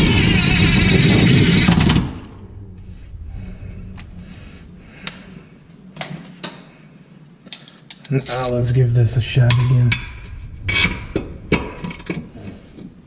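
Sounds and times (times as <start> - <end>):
low background hum: 1.8 - 13.0.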